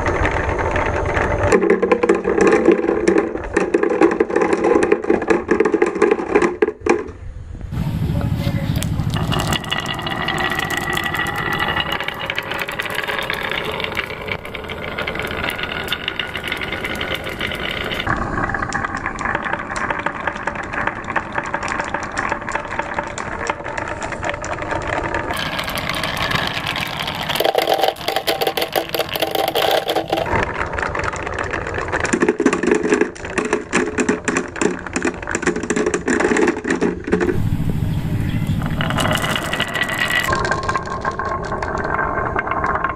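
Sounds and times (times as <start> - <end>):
marbles rolling and clacking: 0.0 - 7.2, 8.1 - 37.4, 38.2 - 42.9.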